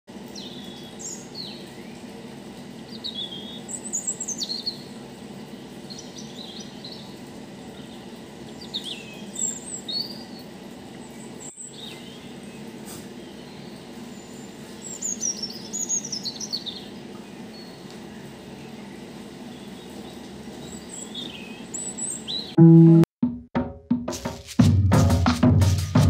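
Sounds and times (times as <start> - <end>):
small birds chirping: 0.2 - 22.6.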